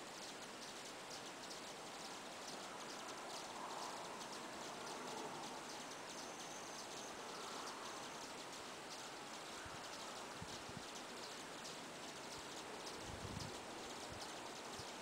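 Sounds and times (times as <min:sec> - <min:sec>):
hummingbirds chipping calls: 0:00.0 - 0:15.0.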